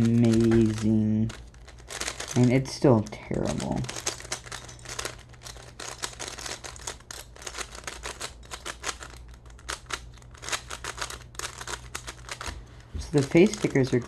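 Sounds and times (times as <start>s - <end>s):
speed cube clicking: 0.0s - 2.6s, 3.5s - 14.0s.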